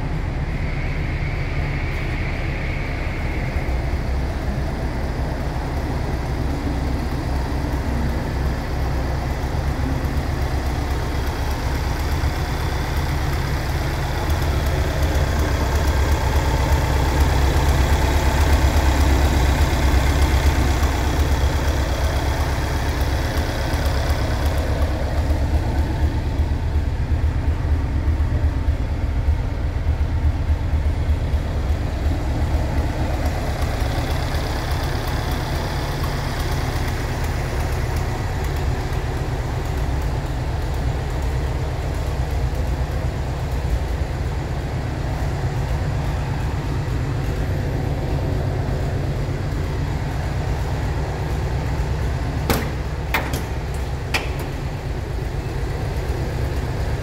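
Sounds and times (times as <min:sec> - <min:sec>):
van engine idling: 0:00.0 - 0:57.0.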